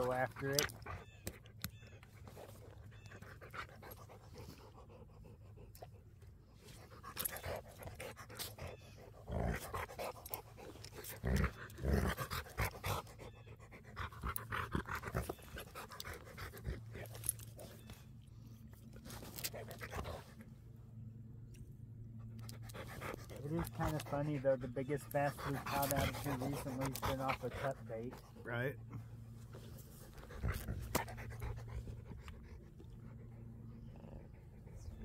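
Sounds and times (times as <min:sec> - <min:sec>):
dog panting: 0:00.0 - 0:17.9, 0:22.2 - 0:35.0.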